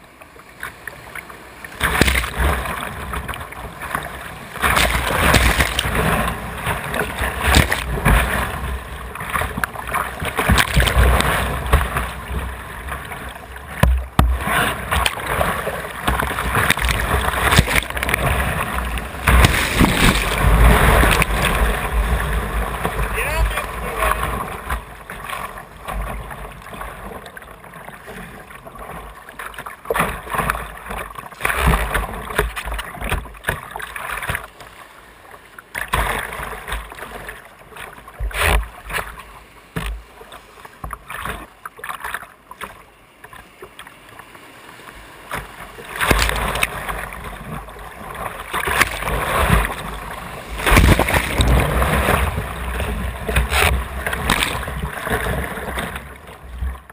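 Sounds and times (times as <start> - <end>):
water splashing against kayak: 0.0 - 56.9
rushing whitewater: 0.1 - 29.0, 29.9 - 56.9.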